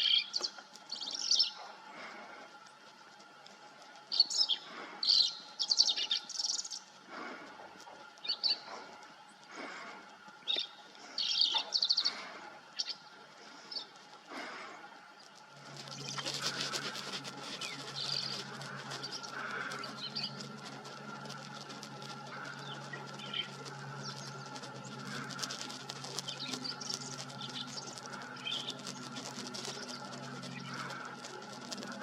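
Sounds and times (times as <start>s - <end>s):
rustle of dry leaf litter: 0.0s - 32.0s.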